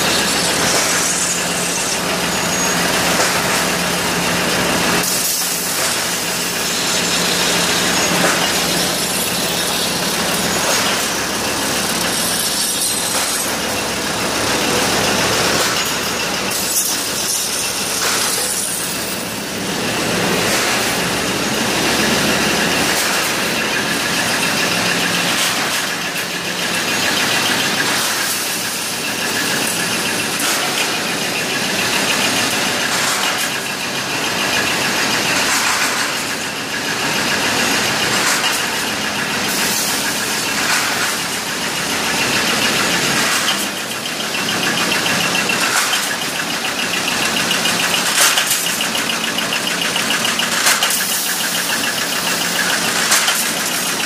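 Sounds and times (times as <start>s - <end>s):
metal processing machinery din: 0.0s - 54.0s.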